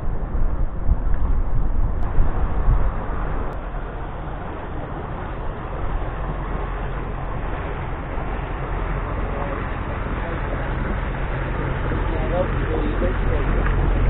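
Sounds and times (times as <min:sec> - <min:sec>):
motorboat engine running: 0:00.0 - 0:14.0
wind buffeting the microphone: 0:00.0 - 0:14.0.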